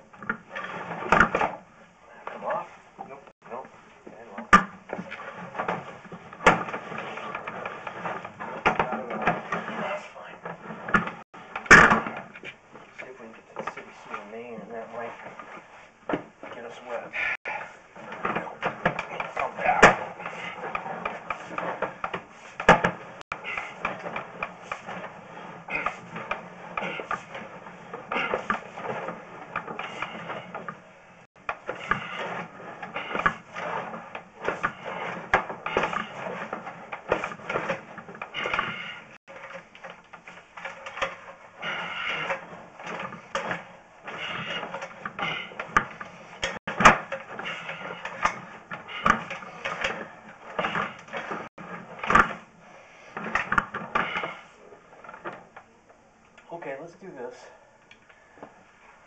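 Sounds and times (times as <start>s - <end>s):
push cable scraping and knocking in drain: 4.2s - 16.7s, 17.4s - 55.5s.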